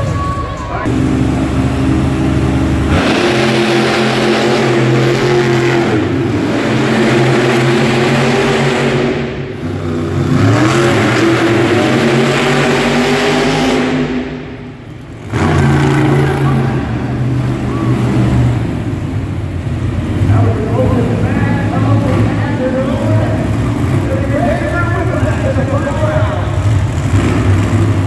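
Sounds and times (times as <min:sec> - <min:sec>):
truck engine revving: 0:00.8 - 0:28.0.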